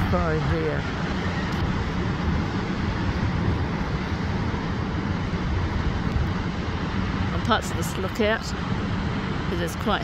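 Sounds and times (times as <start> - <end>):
waterfall rushing with low rumble: 0.0 - 10.0.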